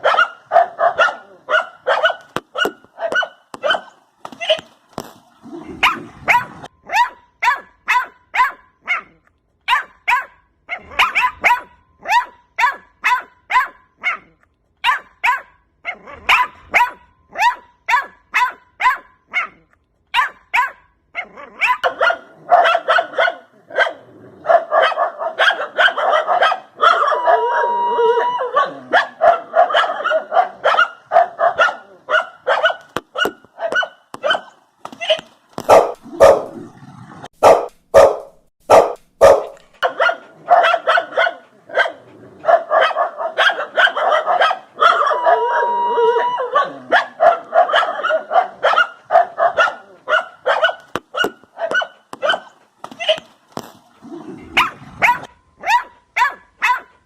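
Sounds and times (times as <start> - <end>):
dogs barking: 0.0 - 4.6, 5.6 - 36.7, 37.3 - 53.3, 54.4 - 57.0.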